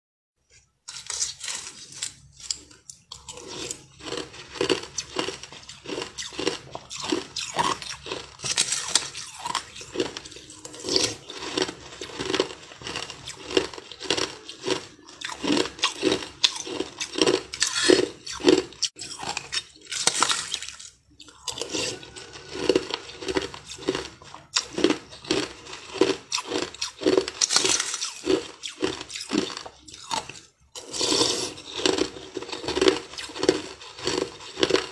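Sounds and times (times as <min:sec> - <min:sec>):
chewing crushed ice: 0:00.5 - 0:34.9.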